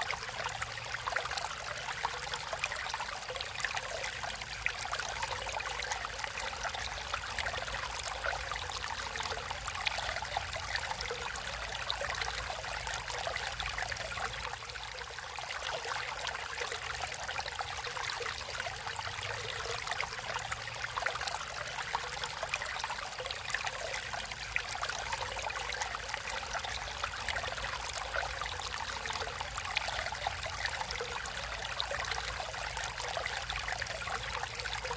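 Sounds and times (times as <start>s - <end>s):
stream flowing and trickling: 0.0s - 34.9s.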